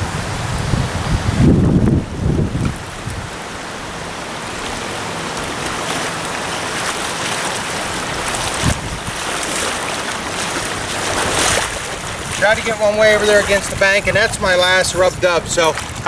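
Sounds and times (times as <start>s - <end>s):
river water rushing: 2.1s - 16.0s.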